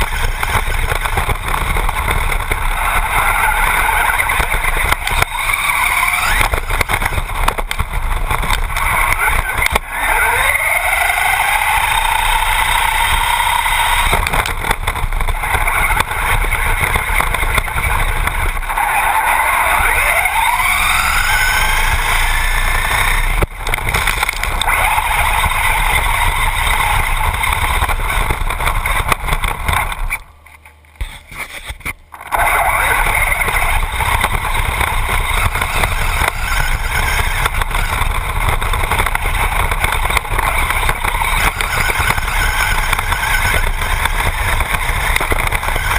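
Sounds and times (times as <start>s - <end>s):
electric motor whining: 0.0s - 30.2s, 31.0s - 45.9s
tyres and wind rushing: 0.0s - 45.9s.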